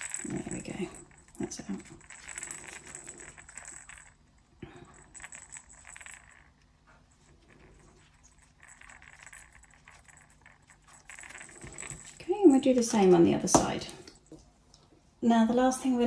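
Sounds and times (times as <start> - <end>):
toy rattle clinking: 0.0 - 6.6, 7.2 - 13.6.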